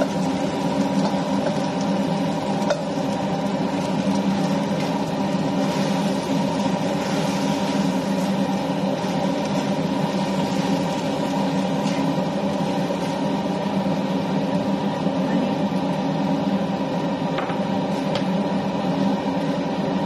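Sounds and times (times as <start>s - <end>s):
droning hum: 0.0s - 20.0s.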